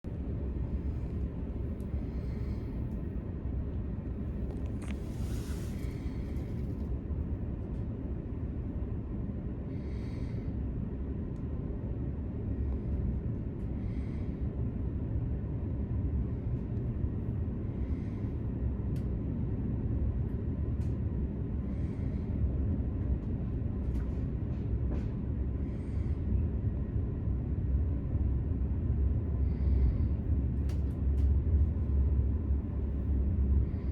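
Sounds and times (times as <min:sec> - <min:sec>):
train rumble on board: 0:00.0 - 0:33.9.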